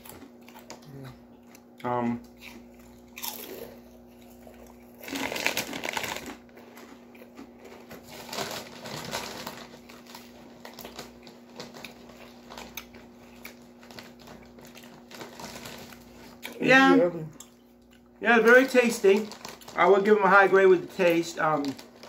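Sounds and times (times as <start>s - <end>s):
chewing crunchy chips: 0.0s - 22.0s.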